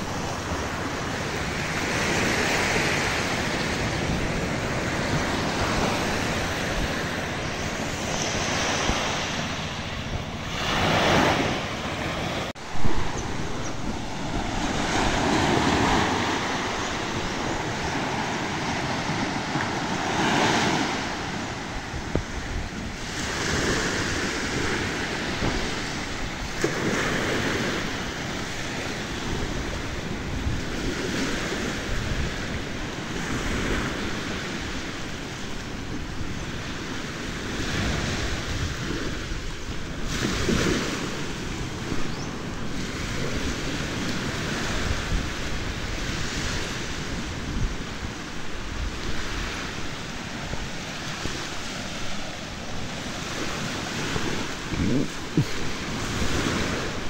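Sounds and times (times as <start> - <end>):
small waves washing on shore: 0.0 - 57.0
wind buffeting microphone: 0.0 - 57.0.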